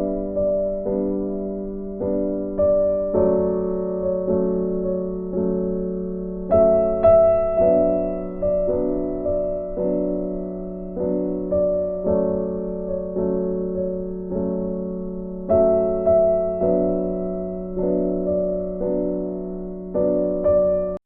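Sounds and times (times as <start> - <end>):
soft piano chords: 0.0 - 21.0.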